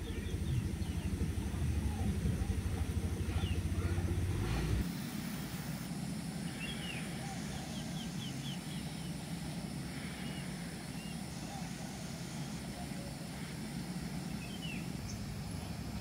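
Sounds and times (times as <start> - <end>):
small birds chirping: 0.0 - 4.8, 6.3 - 16.0
low rumbling noise: 0.0 - 16.0.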